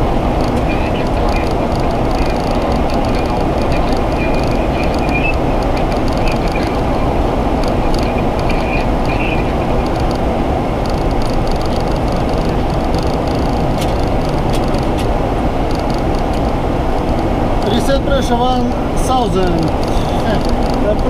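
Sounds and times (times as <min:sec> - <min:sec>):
jet engines rumbling: 0:00.0 - 0:21.0
loud rush of airflow: 0:00.0 - 0:21.0.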